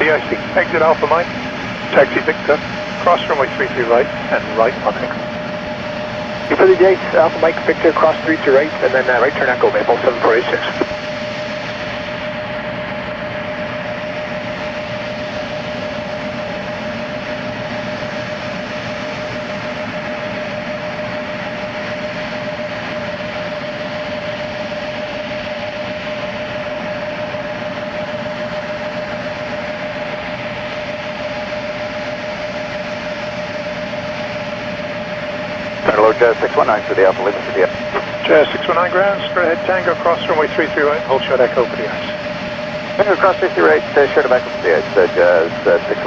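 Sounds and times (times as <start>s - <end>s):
jet engine whine: 0.0s - 46.0s.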